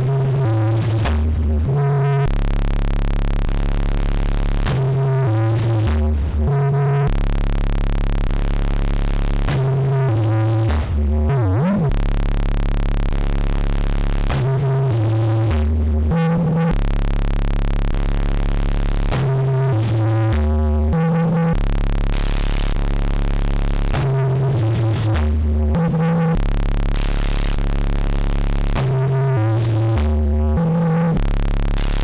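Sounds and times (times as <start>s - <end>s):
low synthesizer drone: 0.0s - 32.0s
synthesizer stepped bass notes: 0.0s - 32.0s.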